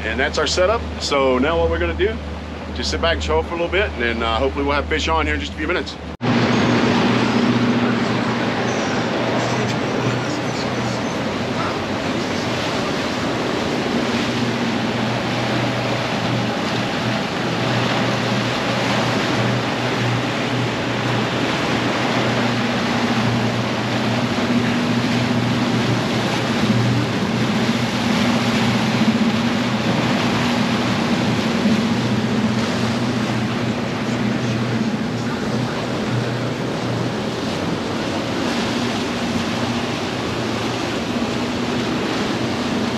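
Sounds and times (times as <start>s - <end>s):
outboard engines humming: 0.0s - 42.9s
wake water rushing along hull: 0.0s - 42.9s.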